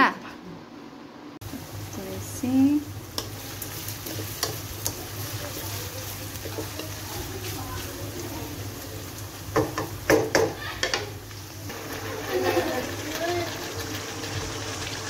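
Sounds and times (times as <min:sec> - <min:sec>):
onions frying: 0:01.4 - 0:15.0
spatula scraping wok: 0:01.9 - 0:14.8.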